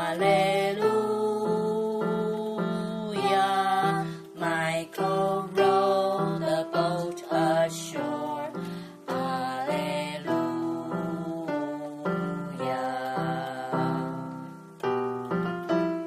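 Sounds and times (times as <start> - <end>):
electronic keyboard melody: 0.0 - 16.0
held keyboard chords: 0.0 - 16.0.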